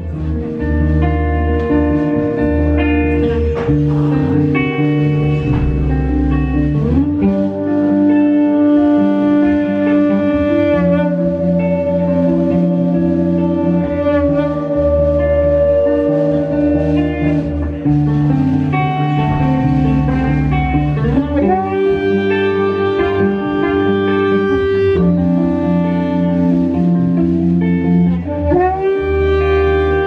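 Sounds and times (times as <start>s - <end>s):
drums: 0.0s - 30.0s
electric guitar: 0.0s - 30.0s
saxophone: 0.0s - 30.0s.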